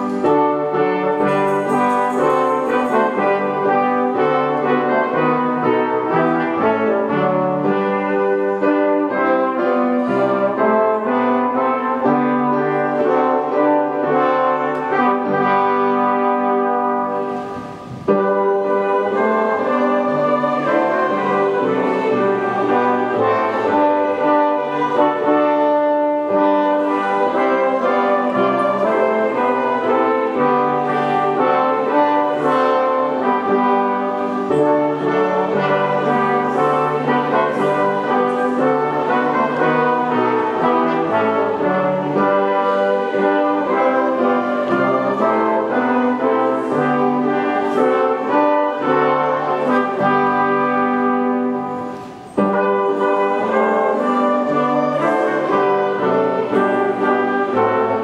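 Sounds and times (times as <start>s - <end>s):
brass ensemble playing chords: 0.0s - 58.0s.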